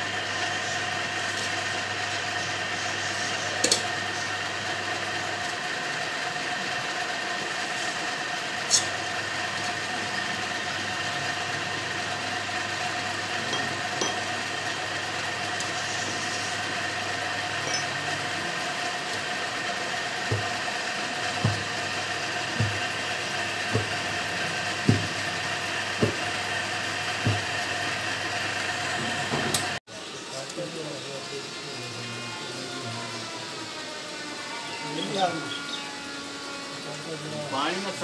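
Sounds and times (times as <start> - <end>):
machine hum with whine: 0.0 - 38.0.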